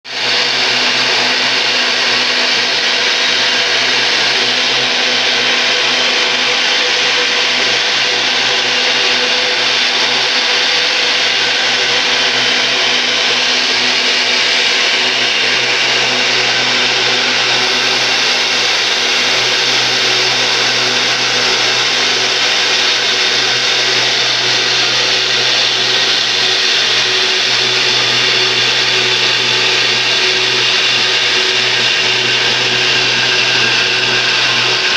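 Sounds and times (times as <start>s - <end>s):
belt grinder whirring: 0.1s - 34.9s.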